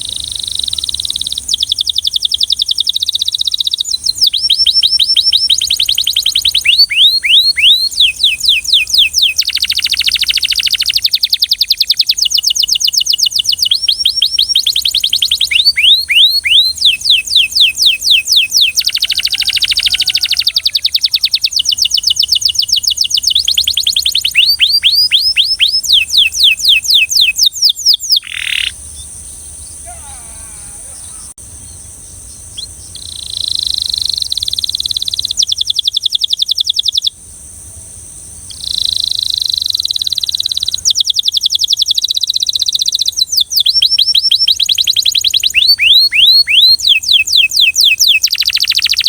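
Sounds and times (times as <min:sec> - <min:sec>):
canary singing: 0:00.0 - 0:37.2, 0:38.5 - 0:49.0.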